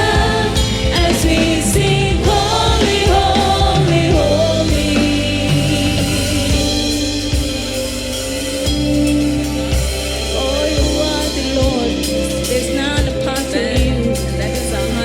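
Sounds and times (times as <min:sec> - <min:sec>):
person singing: 0:00.0 - 0:08.3, 0:10.3 - 0:15.0
gospel band playing: 0:00.0 - 0:15.0.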